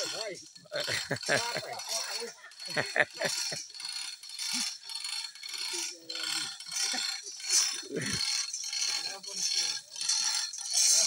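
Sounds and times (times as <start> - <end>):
chain hoist rattling: 0.0 - 11.0.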